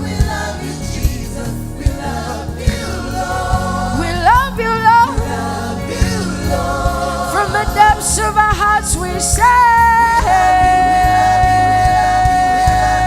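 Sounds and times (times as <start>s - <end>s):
band with bass and drums: 0.0s - 13.0s
choir singing: 0.0s - 13.0s.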